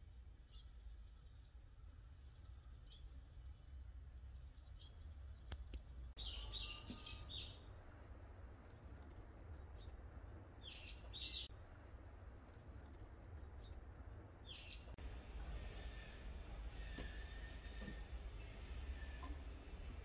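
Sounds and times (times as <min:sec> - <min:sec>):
faint low outdoor rumble: 0:00.0 - 0:20.0
bird chirping: 0:00.4 - 0:07.8, 0:08.6 - 0:11.5, 0:12.6 - 0:20.0.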